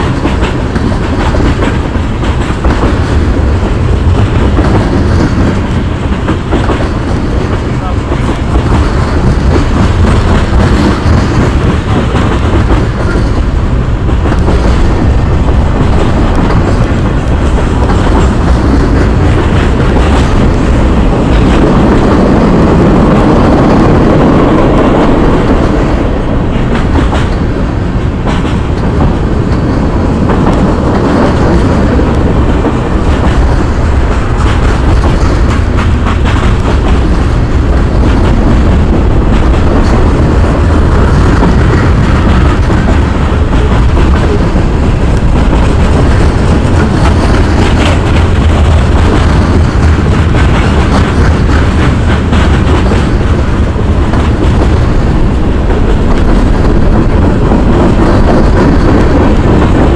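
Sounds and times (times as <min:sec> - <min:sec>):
freight train rumbling past: 0:00.0 - 0:59.9
train wheel clatter: 0:00.0 - 0:59.9.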